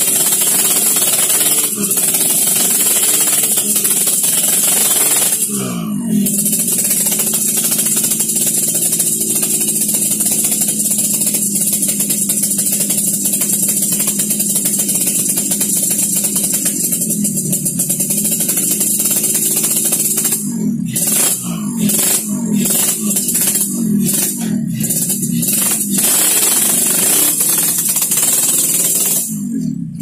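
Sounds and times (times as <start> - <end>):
engine revving: 0.0 - 30.0
two-stroke motorcycle engine idling: 0.0 - 30.0.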